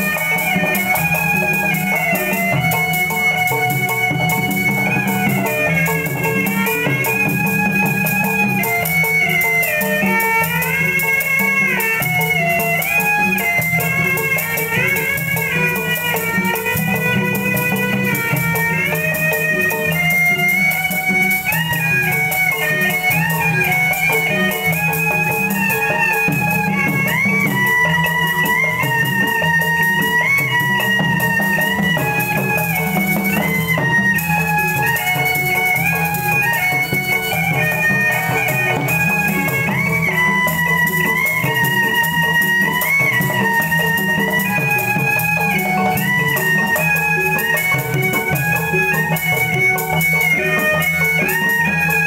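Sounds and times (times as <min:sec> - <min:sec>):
traditional dance music with sliding melody: 0:00.0 - 0:52.0.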